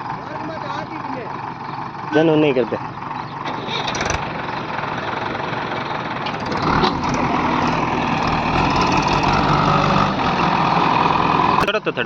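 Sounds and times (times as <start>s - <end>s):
heavy diesel engine revving: 0.0s - 12.0s.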